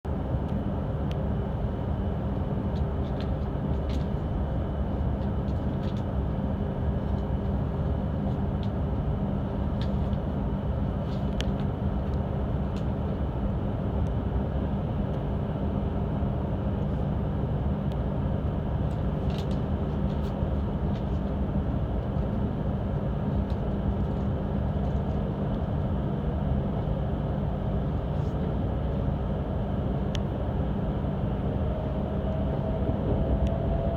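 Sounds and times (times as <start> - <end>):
train car rumble and hum: 0.0 - 33.9.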